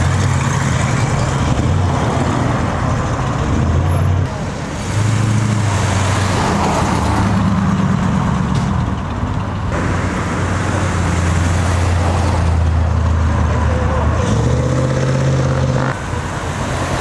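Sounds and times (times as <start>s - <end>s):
car engines driving past: 0.0s - 17.0s.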